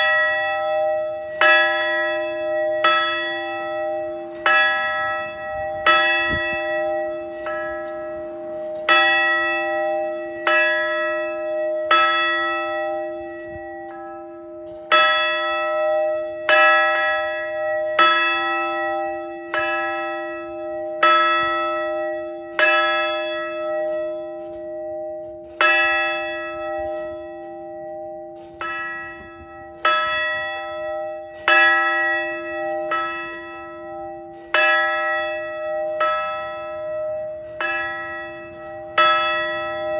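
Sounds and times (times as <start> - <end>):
large bell ringing: 0.0 - 39.9.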